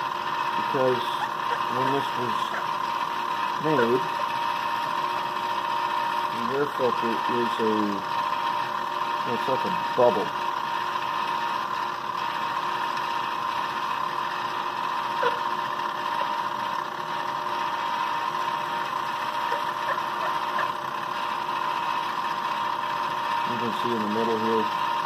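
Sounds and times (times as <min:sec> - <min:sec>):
milling machine whining: 0:00.0 - 0:25.0.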